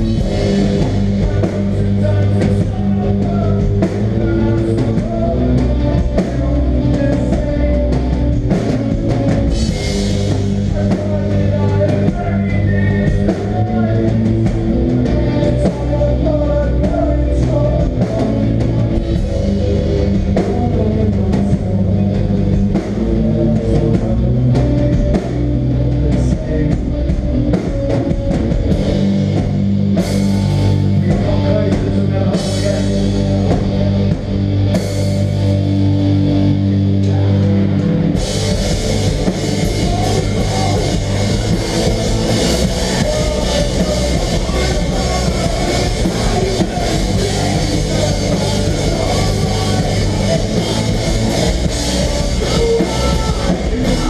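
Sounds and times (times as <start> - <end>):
hardcore band playing: 0.0 - 54.0.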